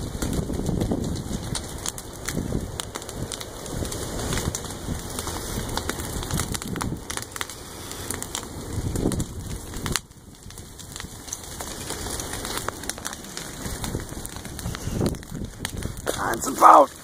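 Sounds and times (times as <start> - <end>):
wind rumble on microphone: 0.0 - 16.5
fire crackling and popping: 0.0 - 17.0.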